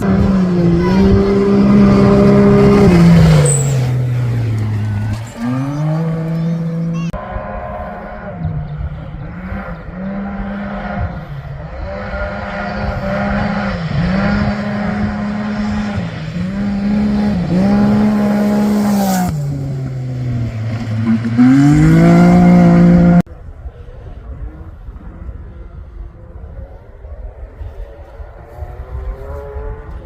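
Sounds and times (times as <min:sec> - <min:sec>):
racing engine at full throttle: 0:00.0 - 0:30.0.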